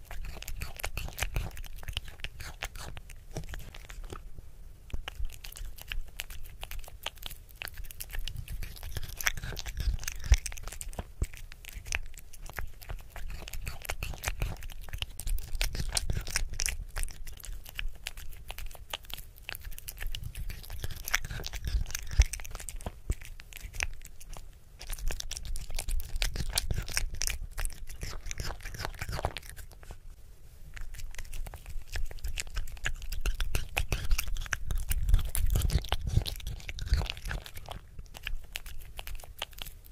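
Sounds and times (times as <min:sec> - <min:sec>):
kitten chewing and smacking: 0:00.0 - 0:39.9.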